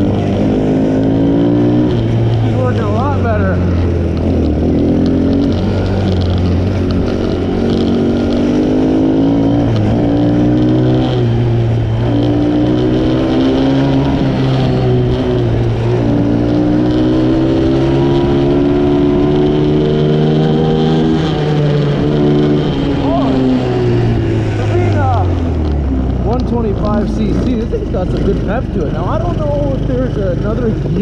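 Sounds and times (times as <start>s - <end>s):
atv engine revving under load: 0.0s - 31.0s.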